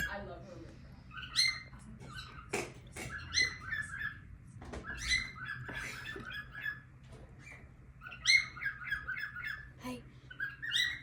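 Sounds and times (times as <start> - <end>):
parrots chirping: 0.0 - 11.0.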